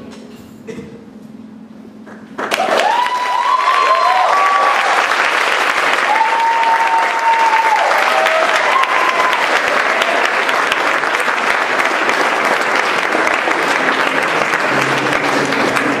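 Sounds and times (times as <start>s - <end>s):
audience applauding: 2.1s - 16.0s.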